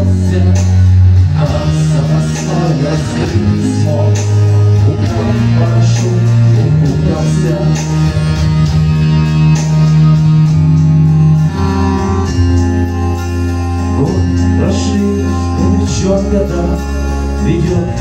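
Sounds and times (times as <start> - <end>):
electric guitar: 0.0 - 18.0
low bass line: 0.0 - 18.0
sustained keyboard chords: 0.0 - 18.0.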